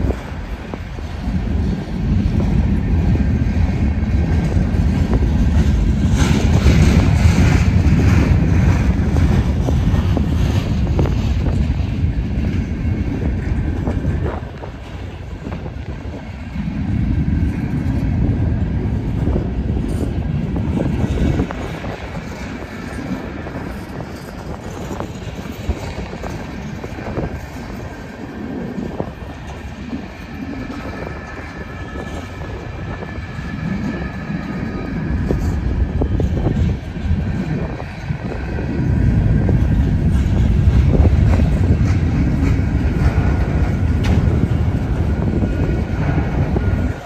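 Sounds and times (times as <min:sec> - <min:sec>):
freight train rumbling past: 0:00.0 - 0:47.0
train wheels clicking over rail joints: 0:00.0 - 0:47.0.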